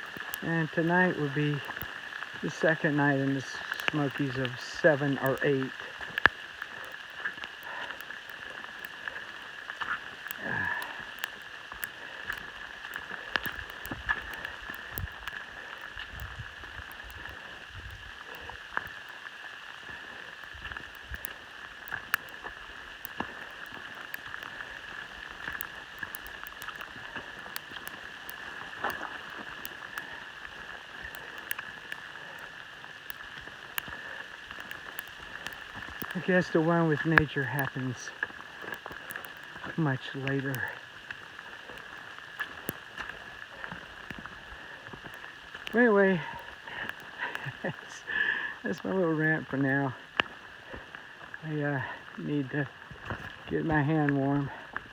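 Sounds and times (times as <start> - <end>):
constant hiss: 0.0 - 54.9.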